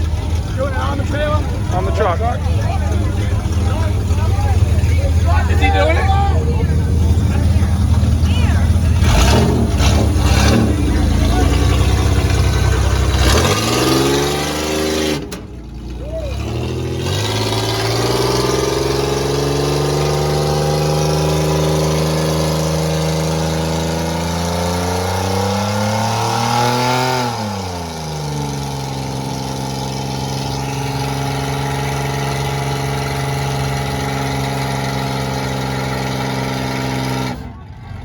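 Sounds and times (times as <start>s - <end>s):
car engine revving high: 0.0s - 37.6s.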